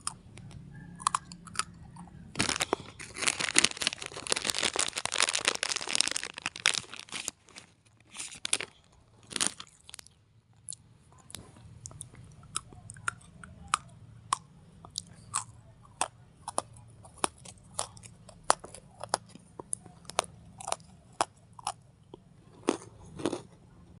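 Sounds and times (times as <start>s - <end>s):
crunchy chewing: 0.0s - 23.6s
faint low hum: 0.0s - 24.0s.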